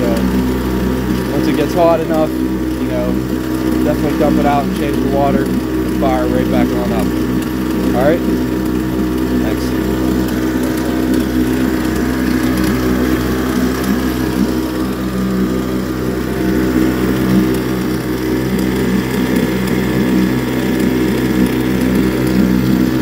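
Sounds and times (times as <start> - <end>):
outboard motor running: 0.0 - 23.0
propeller churning water: 0.0 - 23.0.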